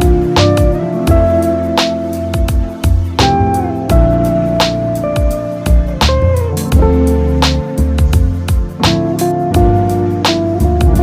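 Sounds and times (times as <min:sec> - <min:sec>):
guitar music with bass and drums: 0:00.0 - 0:11.0.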